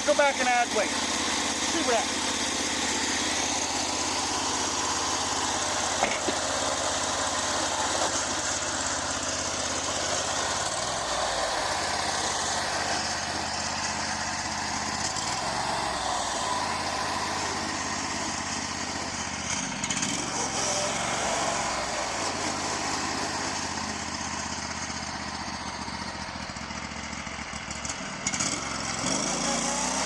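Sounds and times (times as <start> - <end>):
truck engine running steadily: 0.0 - 30.0.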